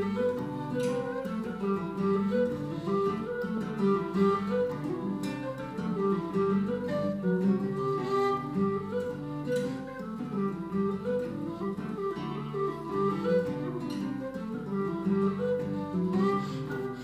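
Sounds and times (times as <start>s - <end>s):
acoustic guitar strumming: 0.0s - 17.0s
tin whistle melody: 0.0s - 17.0s.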